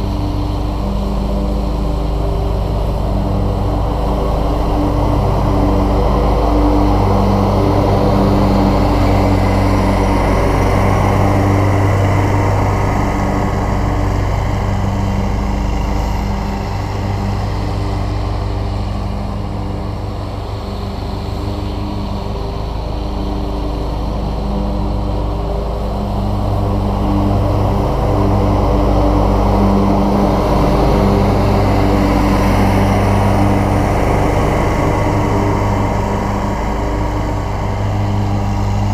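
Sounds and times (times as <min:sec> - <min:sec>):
riding mower engine drone: 0:00.0 - 0:38.9.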